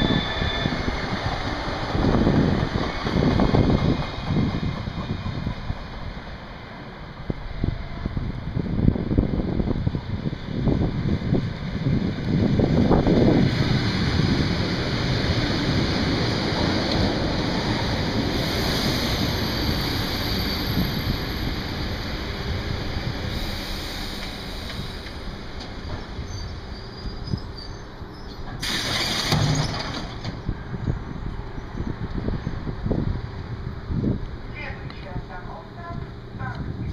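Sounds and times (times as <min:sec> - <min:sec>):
train rumbling to a stop: 0:00.0 - 0:36.9.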